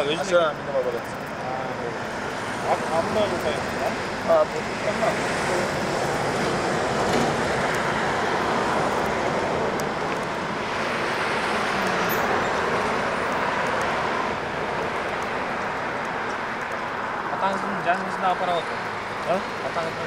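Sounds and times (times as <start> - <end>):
road traffic rushing: 0.0 - 20.0.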